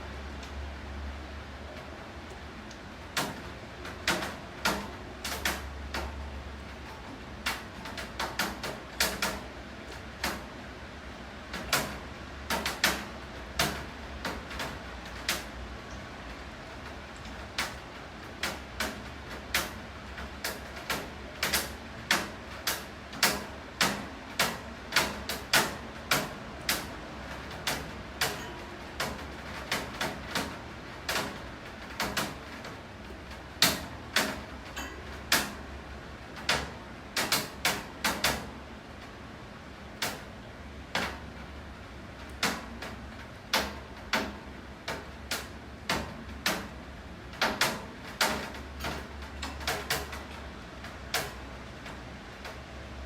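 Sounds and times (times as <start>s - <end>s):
low hiss and hum: 0.0s - 53.0s.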